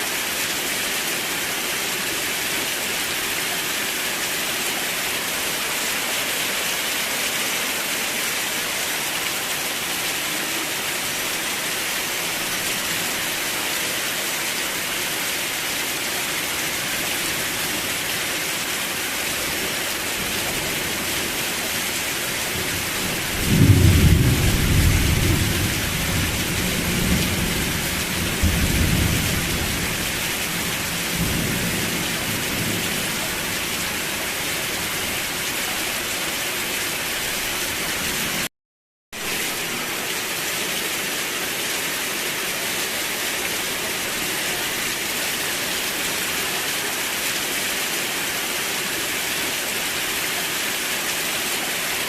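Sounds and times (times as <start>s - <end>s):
rain falling: 0.0s - 38.5s, 39.2s - 52.0s.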